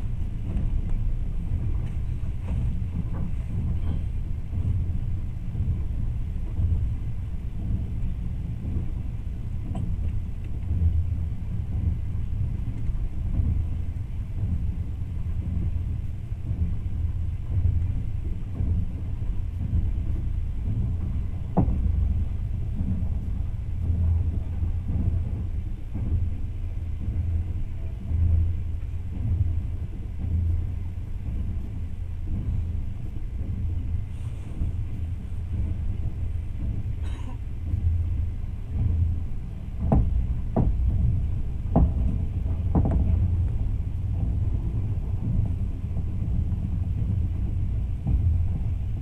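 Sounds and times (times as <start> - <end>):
vehicle rumble from inside: 0.0 - 49.0.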